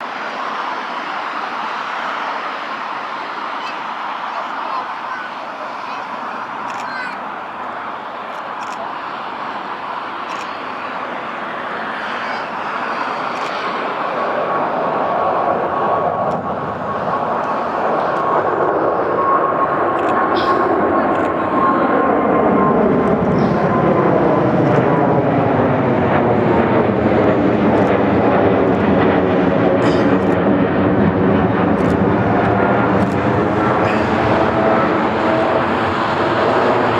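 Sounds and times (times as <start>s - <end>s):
jet airliner engine rush: 0.0s - 36.9s.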